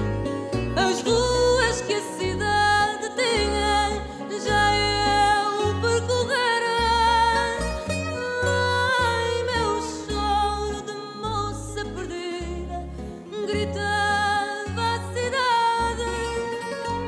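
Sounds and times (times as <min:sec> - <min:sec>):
low bass notes: 0:00.0 - 0:17.0
plucked guitar: 0:00.0 - 0:17.0
woman singing: 0:00.7 - 0:17.0.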